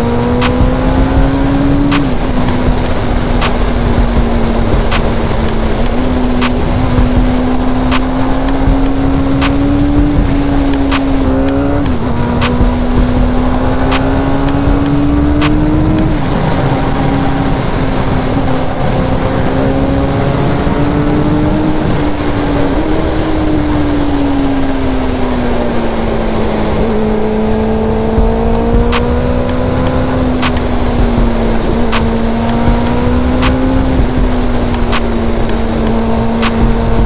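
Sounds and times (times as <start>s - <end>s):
motorcycle engine running: 0.0s - 37.0s
wind noise: 0.0s - 37.0s.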